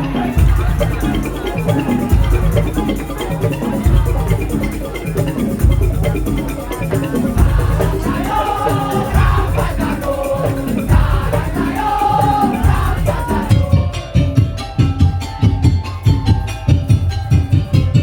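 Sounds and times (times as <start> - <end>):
loud held melody line: 0.0 - 18.0
repeating pitched percussion: 0.0 - 18.0
heavy drum strikes: 0.3 - 6.5, 7.1 - 18.0.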